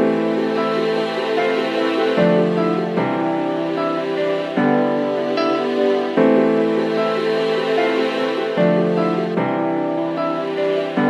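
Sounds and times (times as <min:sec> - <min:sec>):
background music held chords: 0:00.0 - 0:11.0.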